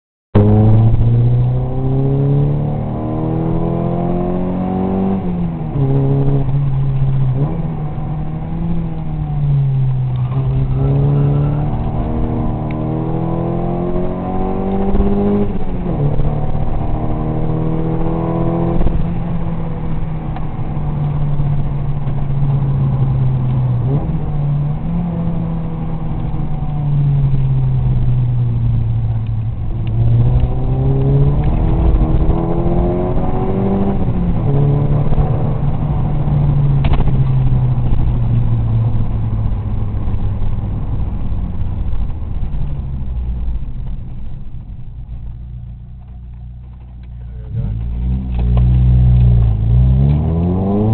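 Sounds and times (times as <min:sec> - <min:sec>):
car engine accelerating: 0:00.4 - 0:50.9.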